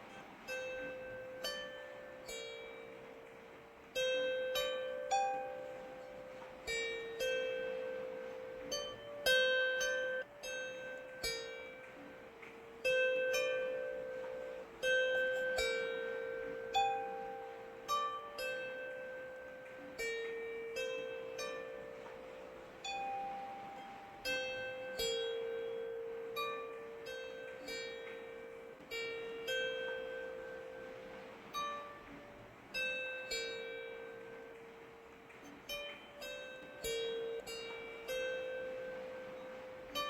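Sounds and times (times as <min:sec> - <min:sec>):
faint rain hiss: 0:00.0 - 0:40.0
slow plucked string music: 0:00.0 - 0:40.0.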